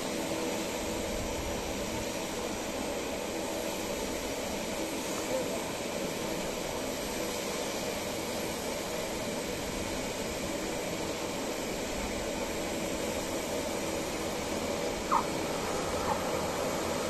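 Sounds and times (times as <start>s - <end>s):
distant turboprop plane drone: 0.0s - 17.0s.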